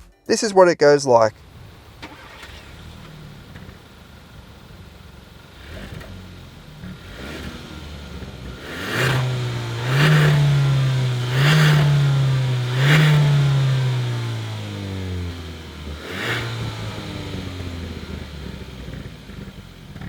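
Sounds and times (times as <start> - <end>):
car engine accelerating hard: 1.4 - 20.0.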